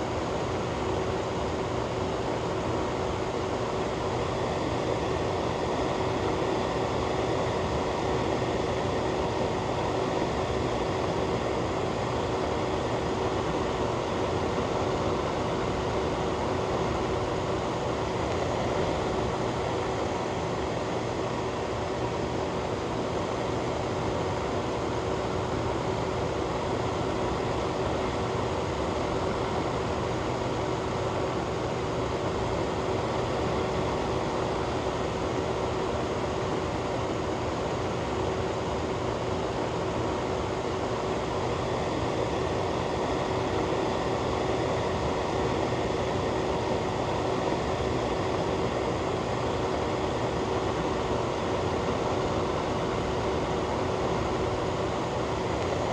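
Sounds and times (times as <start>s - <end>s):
faint constant hum: 0.0s - 55.9s
fan running: 0.0s - 55.9s.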